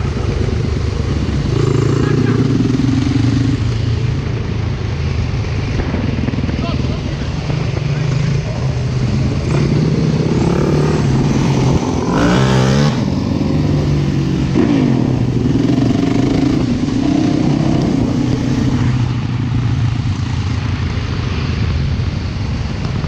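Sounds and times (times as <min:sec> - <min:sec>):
dirt bike and quad engines revving: 0:00.0 - 0:23.0.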